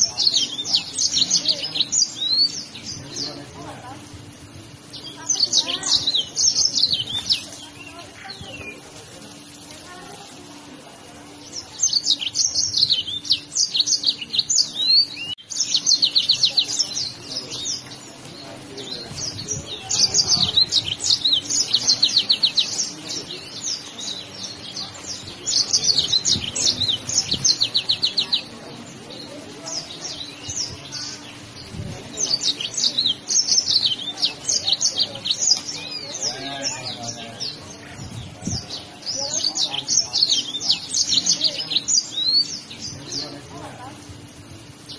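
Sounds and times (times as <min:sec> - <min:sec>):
canary singing trills: 0:00.0 - 0:10.6, 0:11.4 - 0:44.9.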